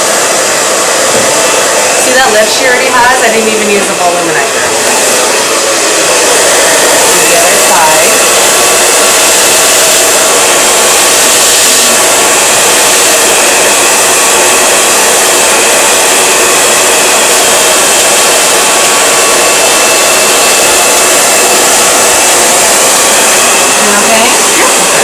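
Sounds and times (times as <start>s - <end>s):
hair dryer blowing: 0.0s - 25.0s.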